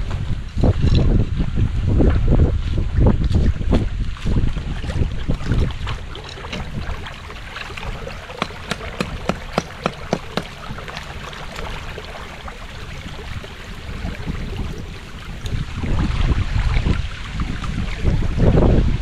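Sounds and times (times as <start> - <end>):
water flowing and splashing: 0.0 - 19.0.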